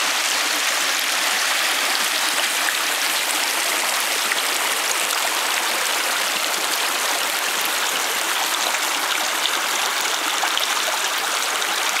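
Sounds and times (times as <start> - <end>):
creek water splashing over rocks: 0.0 - 12.0.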